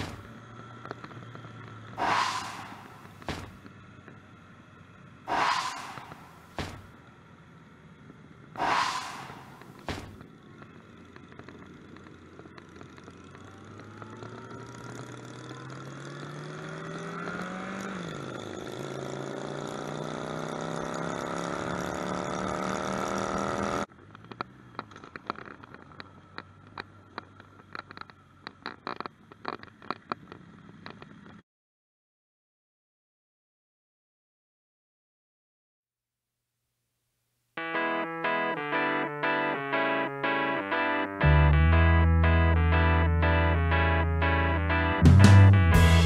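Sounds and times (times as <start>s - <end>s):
motorcycle engine accelerating: 0.0s - 31.4s, 37.7s - 46.0s.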